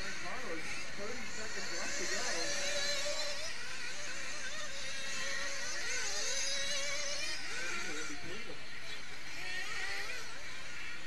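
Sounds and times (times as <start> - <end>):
model car engines whining: 0.0 - 11.0.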